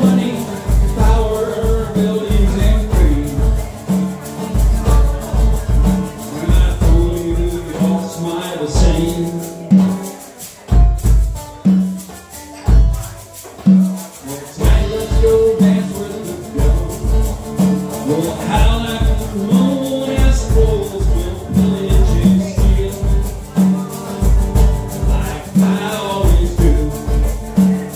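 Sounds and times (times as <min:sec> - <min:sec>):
acoustic guitar strumming: 0:00.0 - 0:27.9
hand drum beat: 0:00.0 - 0:27.9.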